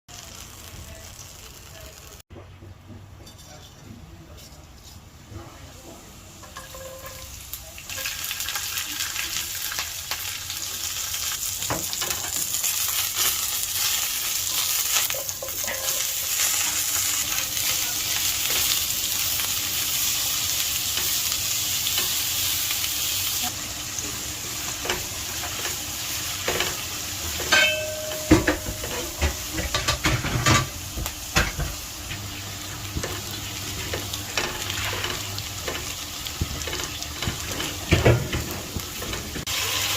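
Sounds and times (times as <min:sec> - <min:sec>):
food sizzling in hot oil: 0:00.1 - 0:02.2, 0:06.0 - 0:39.9.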